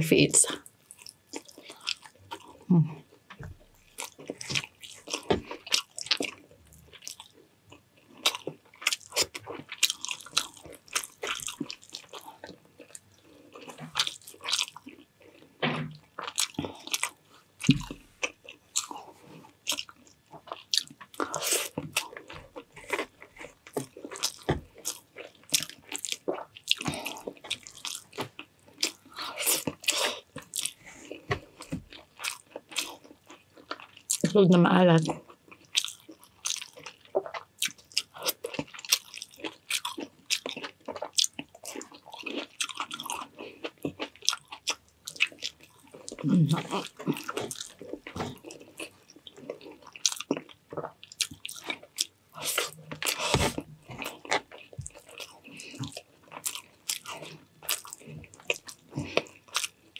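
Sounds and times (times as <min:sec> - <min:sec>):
person chewing and biting: 0:00.8 - 0:02.7, 0:03.6 - 0:34.3, 0:35.1 - 0:59.9.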